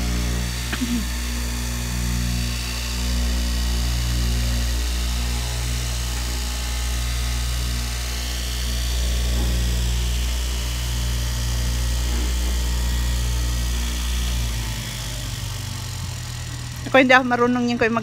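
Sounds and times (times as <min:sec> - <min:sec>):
cloth cutting machine blade: 0:00.0 - 0:18.0
constant motor hum: 0:00.0 - 0:18.0.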